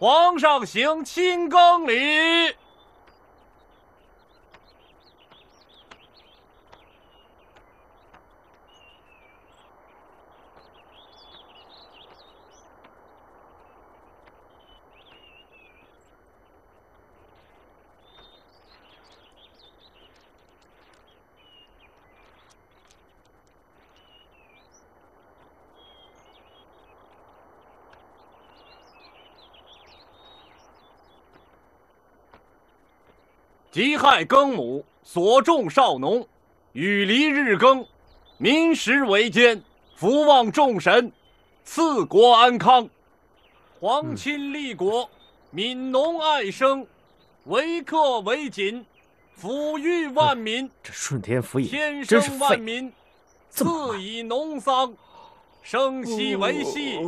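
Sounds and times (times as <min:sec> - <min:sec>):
low steady hiss: 0:00.0 - 0:57.0
small birds chirping: 0:00.0 - 0:57.0.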